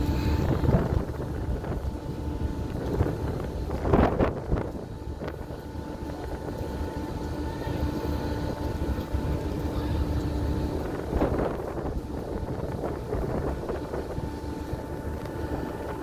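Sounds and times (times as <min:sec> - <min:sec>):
boat engine hum: 0:00.0 - 0:16.0
wind buffeting microphone: 0:00.0 - 0:16.0.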